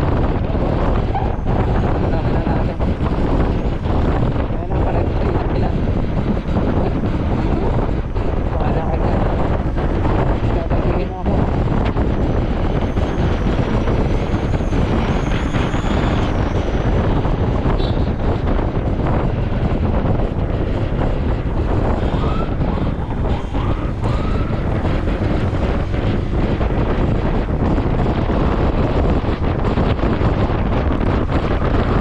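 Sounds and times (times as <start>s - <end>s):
scooter engine and road noise: 0.0s - 32.0s
wind rushing over microphone: 0.0s - 32.0s.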